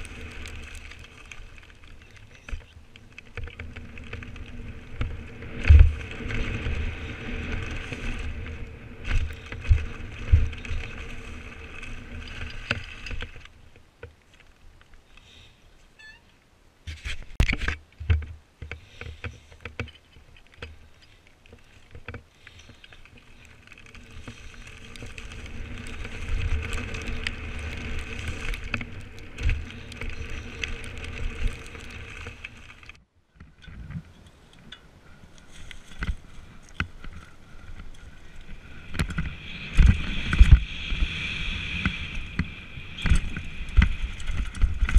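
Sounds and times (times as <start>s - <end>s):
mountain bike buzz and rattle: 0.0s - 13.8s, 16.9s - 44.9s.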